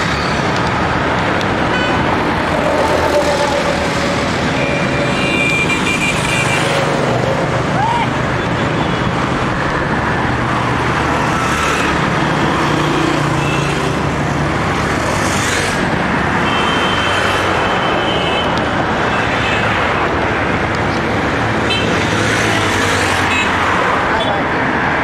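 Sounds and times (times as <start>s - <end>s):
road traffic passing: 0.0s - 25.0s.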